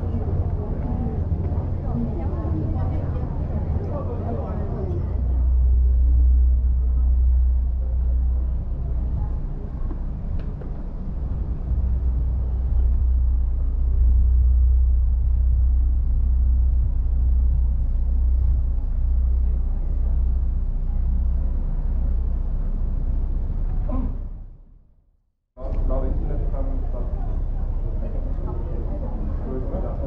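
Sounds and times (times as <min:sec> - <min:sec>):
background noise: 0:00.0 - 0:24.7, 0:25.6 - 0:30.0
loud low rumble: 0:00.0 - 0:25.0, 0:25.6 - 0:30.0.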